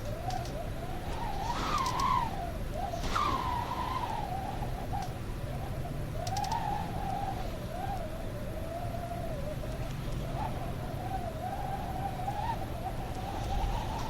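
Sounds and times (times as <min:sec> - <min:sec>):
wind howling: 0:00.0 - 0:14.0.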